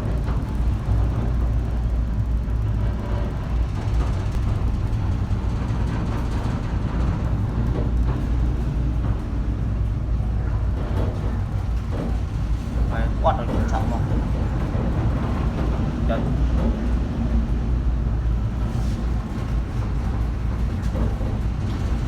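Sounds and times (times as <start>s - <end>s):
heavy seas rumbling: 0.0s - 22.0s.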